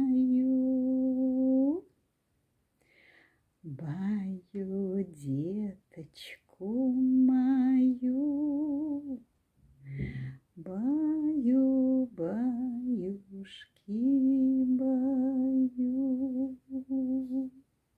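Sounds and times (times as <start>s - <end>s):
woman singing a lullaby: 0.0s - 1.9s, 3.6s - 9.3s, 10.0s - 17.6s.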